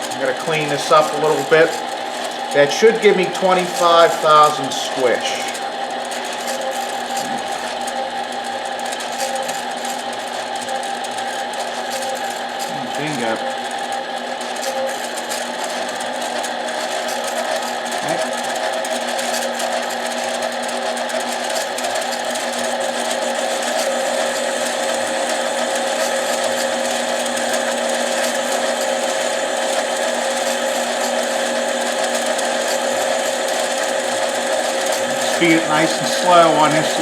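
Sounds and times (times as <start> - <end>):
lathe running: 0.0 - 37.0.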